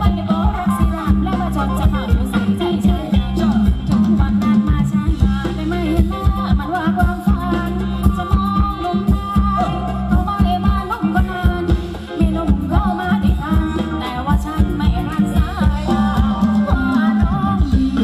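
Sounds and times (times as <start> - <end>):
heavy bass: 0.0 - 18.0
person singing: 0.0 - 18.0
steady drum beat: 0.0 - 18.0.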